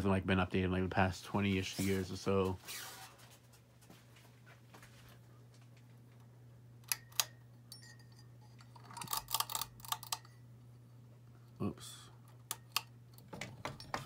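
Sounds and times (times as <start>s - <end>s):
ceiling fan motor hum: 0.0s - 14.0s.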